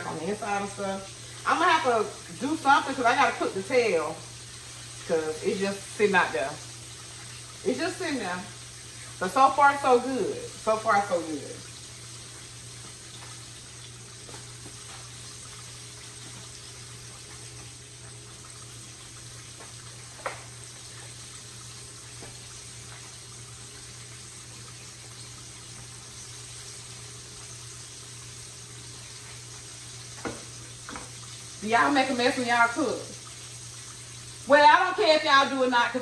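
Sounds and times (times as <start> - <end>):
fish sizzling in oil: 0.0 - 36.0.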